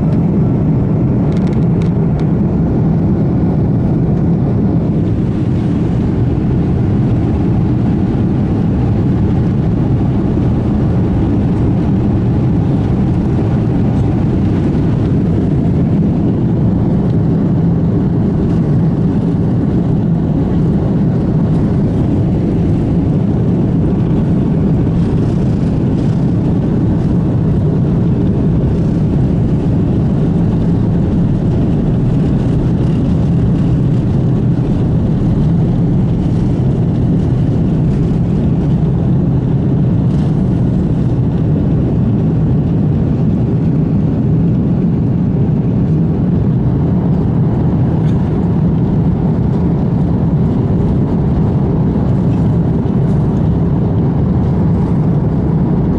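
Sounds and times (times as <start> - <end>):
jet engine cabin rumble: 0.0 - 55.9.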